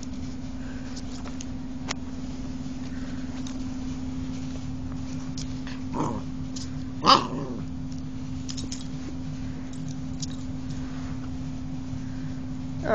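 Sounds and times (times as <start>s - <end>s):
electric massager humming: 0.0s - 12.9s.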